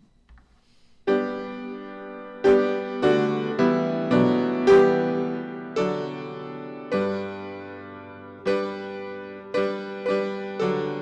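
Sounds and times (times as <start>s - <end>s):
slow piano chords: 1.1s - 11.0s.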